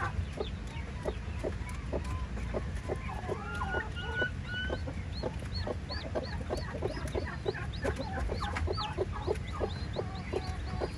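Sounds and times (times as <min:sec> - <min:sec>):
chick peeping: 0:00.0 - 0:10.9
hen clucking: 0:00.0 - 0:10.9.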